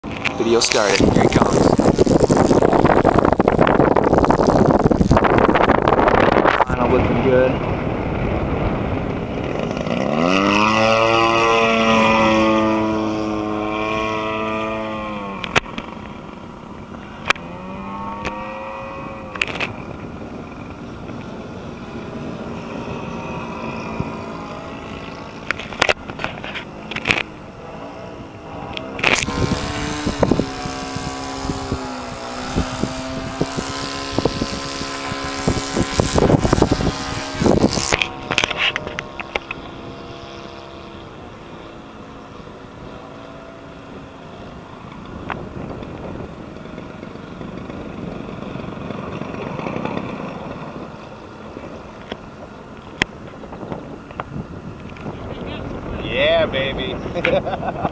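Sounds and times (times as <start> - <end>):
model aircraft engine and propeller: 0.0 - 57.9.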